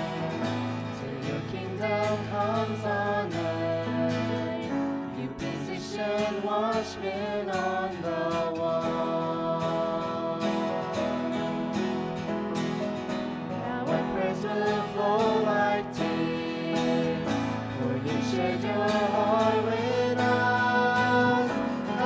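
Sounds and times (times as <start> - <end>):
person singing with vibrato: 0.0 - 12.3, 13.6 - 22.0.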